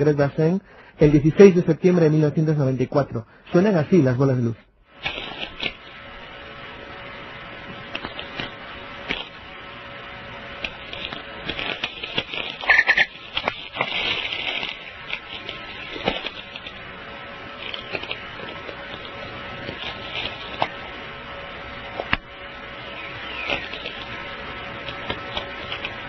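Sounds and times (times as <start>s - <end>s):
faint steady hum: 0.0s - 26.0s
radio static crackling: 0.0s - 26.0s.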